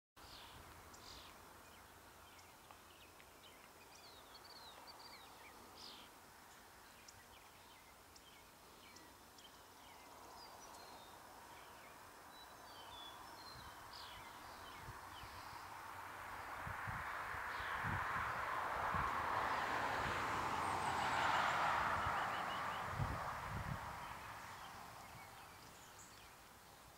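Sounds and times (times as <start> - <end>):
quiet rural background noise: 0.2 - 26.9
songbird chirps: 0.2 - 26.9.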